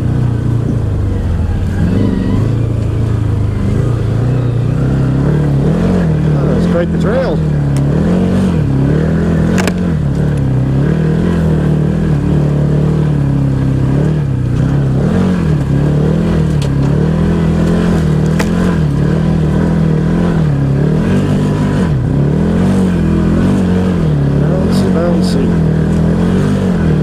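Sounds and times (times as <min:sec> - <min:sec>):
engine revving on a trail: 0:00.0 - 0:27.0.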